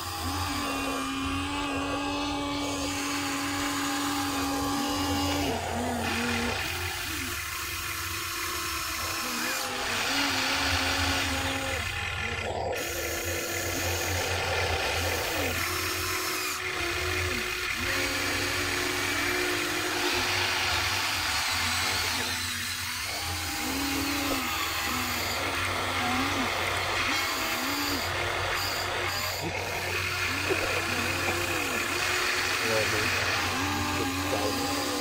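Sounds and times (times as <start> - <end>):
steady low hum: 0.0 - 35.0
toy excavator motors whining: 0.0 - 35.0.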